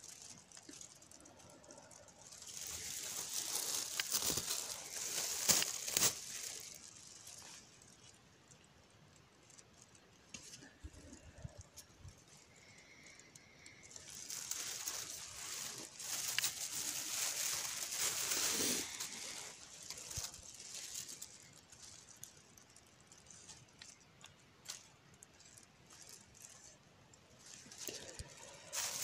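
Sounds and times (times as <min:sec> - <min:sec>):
bramble leaves rustling: 0:00.0 - 0:08.6, 0:09.4 - 0:29.0.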